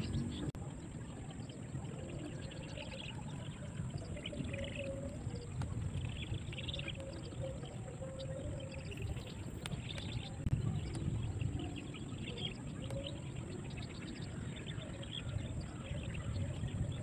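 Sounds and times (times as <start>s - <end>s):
high chirps and ticks: 0.0s - 17.0s
low river rumble: 0.0s - 17.0s.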